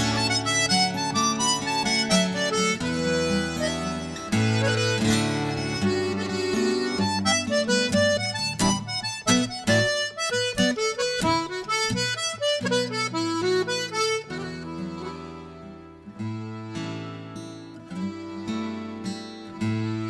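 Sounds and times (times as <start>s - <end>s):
button accordion playing a fast tune: 0.0s - 20.0s.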